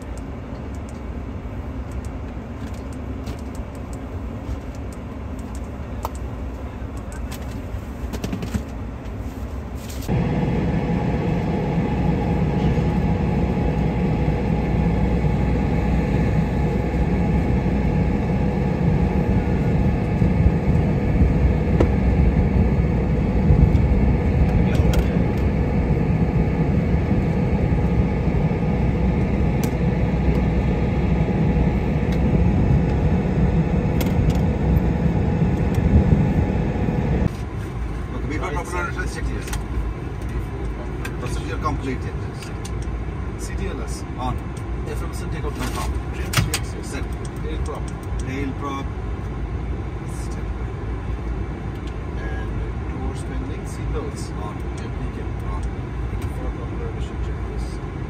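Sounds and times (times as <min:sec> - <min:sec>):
turboprop engines droning: 0:10.1 - 0:58.0.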